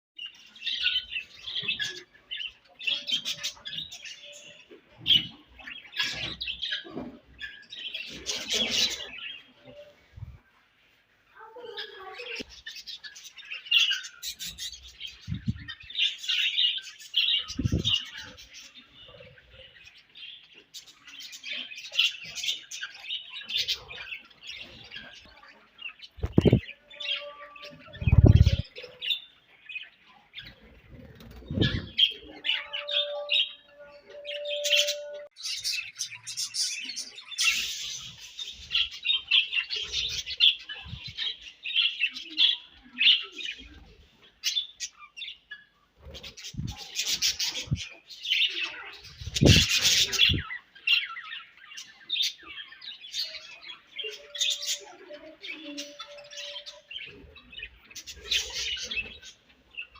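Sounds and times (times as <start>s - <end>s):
budgerigars chirping and chattering: 0.2s - 59.9s.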